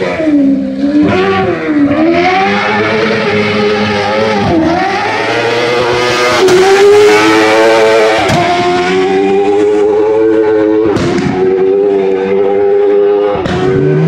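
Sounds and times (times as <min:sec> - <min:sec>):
buggy engine revving hard: 0:00.0 - 0:14.0.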